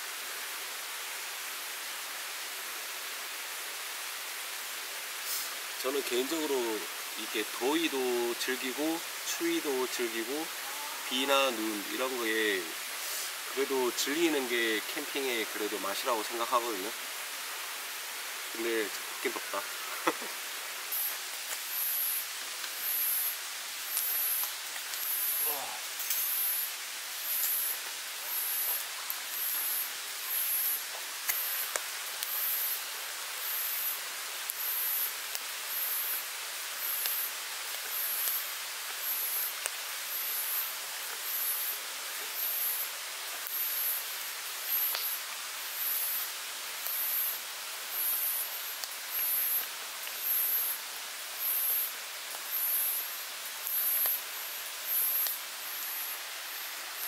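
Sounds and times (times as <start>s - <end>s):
steady background hiss: 0.0s - 57.0s
insect calling in high pulses: 5.2s - 57.0s.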